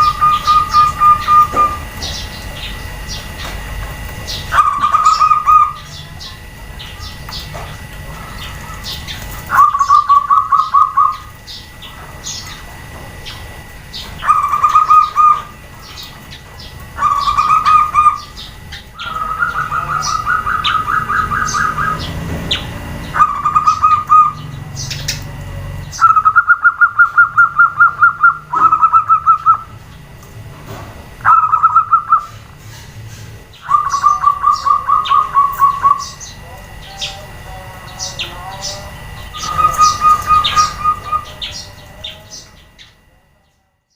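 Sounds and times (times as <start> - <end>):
small birds chirping: 0.0 - 30.2, 31.1 - 43.7
doves cooing: 0.0 - 43.1.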